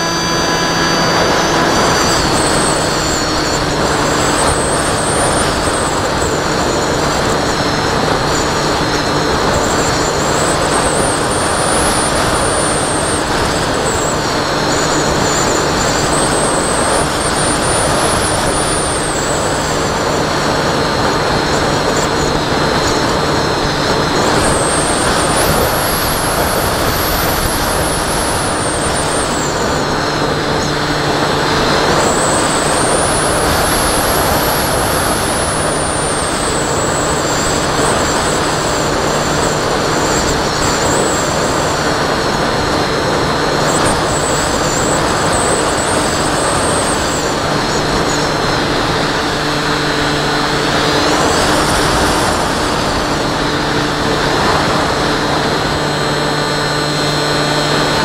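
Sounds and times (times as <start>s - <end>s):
electric motor and propeller whining: 0.0s - 58.0s
wind rushing on microphone: 0.0s - 58.0s.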